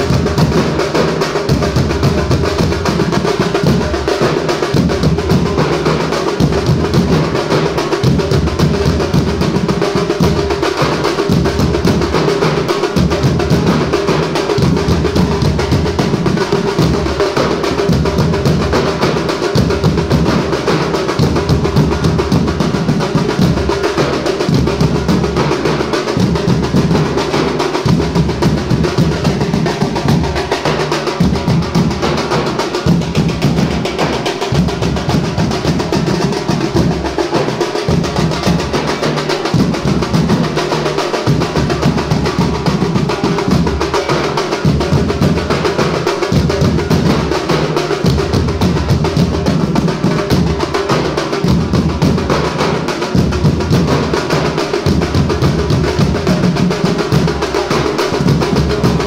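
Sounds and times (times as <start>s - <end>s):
drum troupe drumming: 0.0s - 59.0s.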